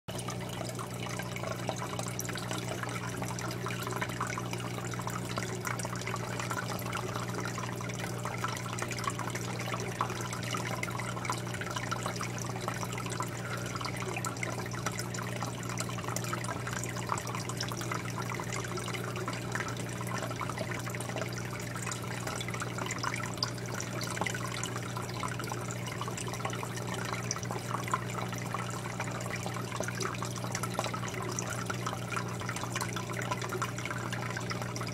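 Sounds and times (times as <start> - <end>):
aquarium filter hum: 0.1 - 34.9
water trickling and bubbling: 0.1 - 34.9.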